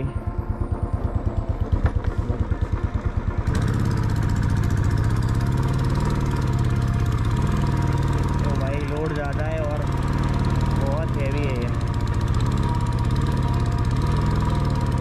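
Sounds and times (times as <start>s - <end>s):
motorcycle engine thumping: 0.0s - 15.0s.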